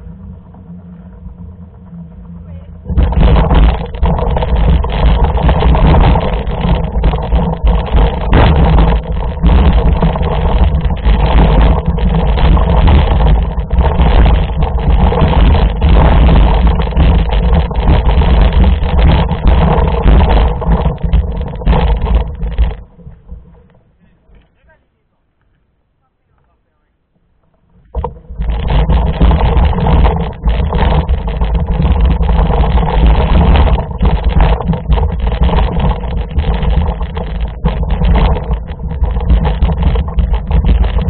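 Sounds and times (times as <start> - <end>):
bike rattling over gravel: 0.0 - 24.7, 27.6 - 41.0.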